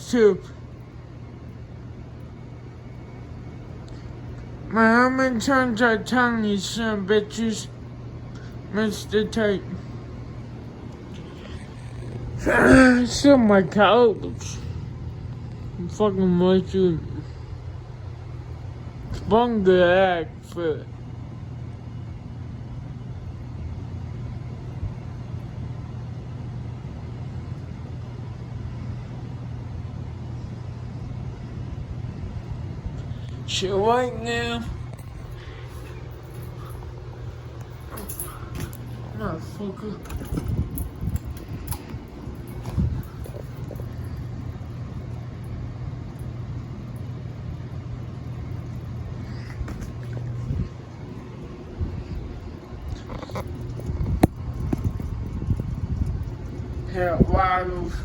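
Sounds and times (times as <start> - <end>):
ceiling fan motor hum: 0.0 - 58.0.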